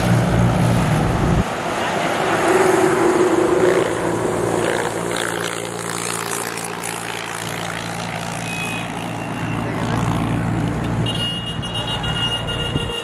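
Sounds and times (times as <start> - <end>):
motor vehicle engine hum: 0.0 - 11.2
truck engine drone: 0.0 - 12.8.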